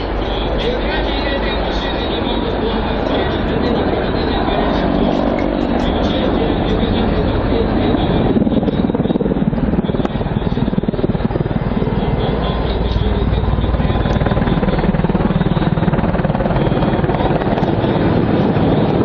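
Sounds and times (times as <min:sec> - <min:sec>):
helicopter rotor beating: 0:00.0 - 0:19.0
helicopter turbine running: 0:00.0 - 0:19.0.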